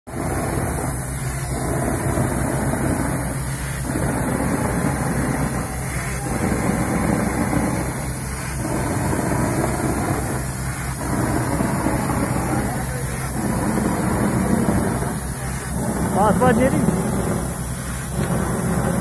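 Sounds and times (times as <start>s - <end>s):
engine hum: 0.1s - 19.0s
rushing hiss of spray nozzle: 0.1s - 19.0s.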